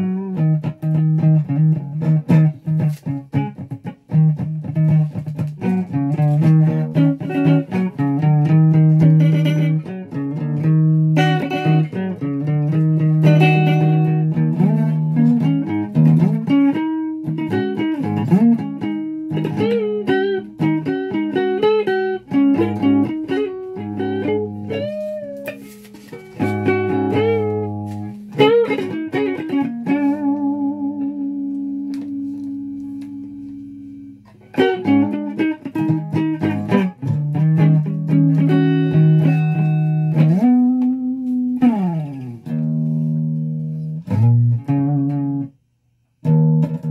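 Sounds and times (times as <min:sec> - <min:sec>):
electric guitar lead lines: 0:00.0 - 0:45.6, 0:46.2 - 0:46.9.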